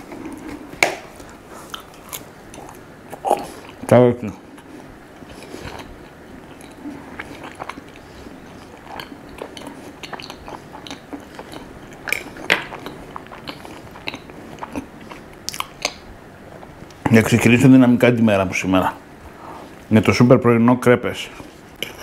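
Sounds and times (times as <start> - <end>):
person chewing: 0.0 - 17.0, 21.3 - 22.0.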